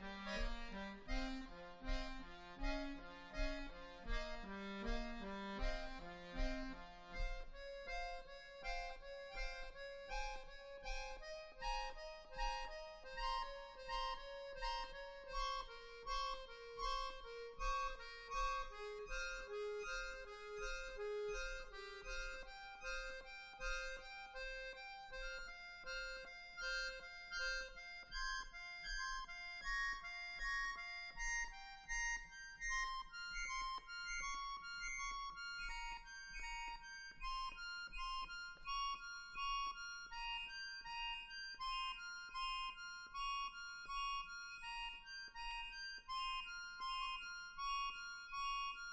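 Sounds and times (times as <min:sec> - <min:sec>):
accordions playing chords: 0:00.0 - 0:48.9.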